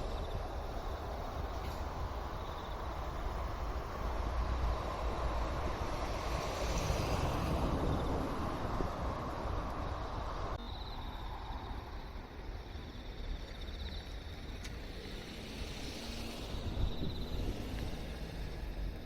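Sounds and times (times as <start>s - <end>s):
insects chirping: 0.0s - 19.0s
passing train rumble: 0.0s - 19.0s.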